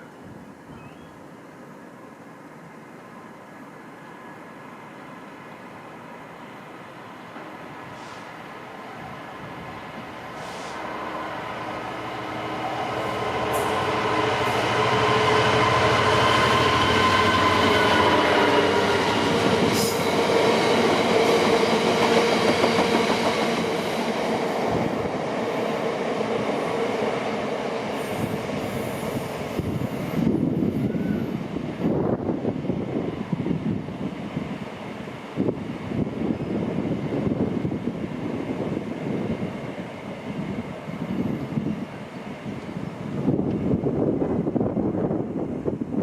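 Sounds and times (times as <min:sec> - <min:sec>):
passing train whine: 0:00.0 - 0:46.0
train wheels rumbling: 0:09.0 - 0:46.0.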